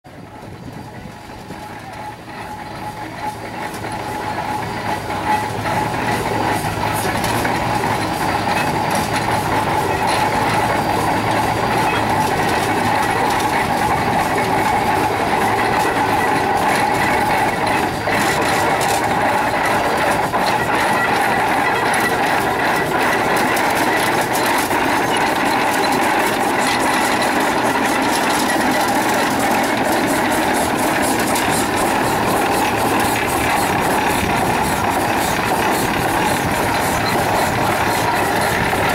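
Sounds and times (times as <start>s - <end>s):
steam traction engine running: 0.0s - 38.9s.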